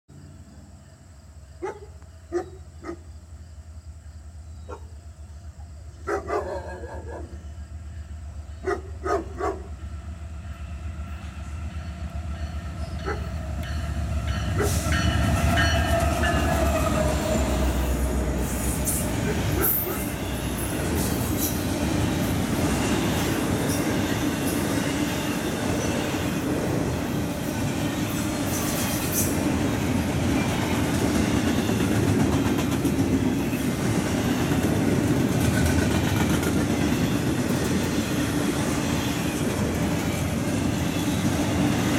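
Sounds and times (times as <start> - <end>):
diesel locomotive engine drone: 0.1 - 41.9
rail cars rumbling and clattering: 6.5 - 41.9.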